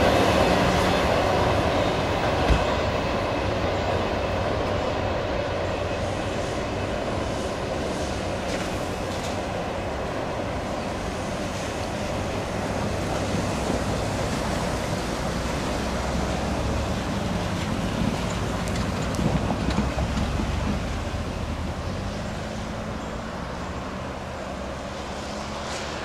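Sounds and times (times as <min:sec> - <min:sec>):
diesel locomotive hum: 0:00.0 - 0:26.0
freight train wheels rumbling: 0:00.0 - 0:26.0.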